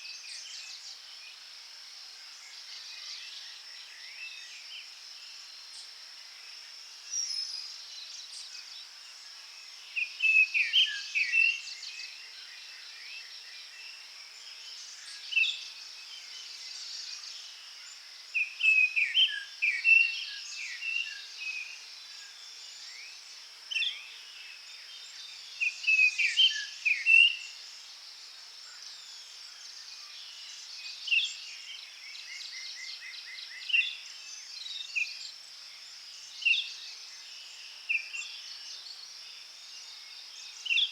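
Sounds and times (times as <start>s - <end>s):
songbirds chirping: 2.4s - 40.9s.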